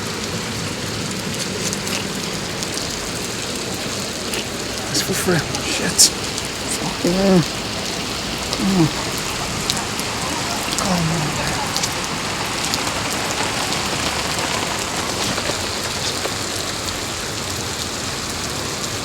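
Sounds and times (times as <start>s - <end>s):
heavy rain falling: 0.0s - 19.0s
sharp ticks of raindrops: 0.0s - 19.0s.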